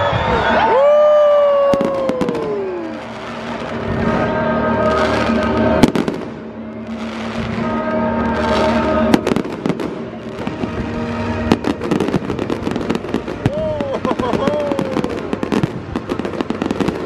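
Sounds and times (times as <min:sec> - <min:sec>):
falling firework whistle: 0:00.0 - 0:17.0
music: 0:00.0 - 0:17.0
fireworks crackling and hissing: 0:01.0 - 0:17.0.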